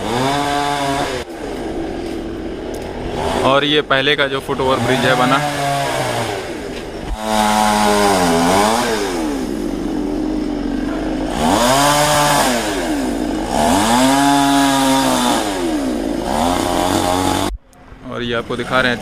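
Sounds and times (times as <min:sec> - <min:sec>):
chainsaw revving: 0:00.0 - 0:17.6.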